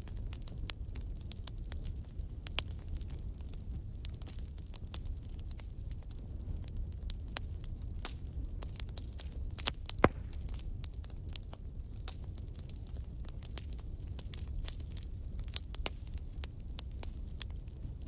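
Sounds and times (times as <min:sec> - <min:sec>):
firewood crackling and popping: 0:00.0 - 0:18.0
low fire rumble: 0:00.0 - 0:18.0.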